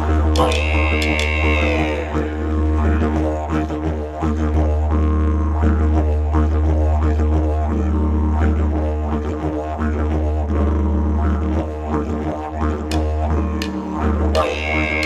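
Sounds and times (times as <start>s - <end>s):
didgeridoo drone: 0.0s - 15.0s.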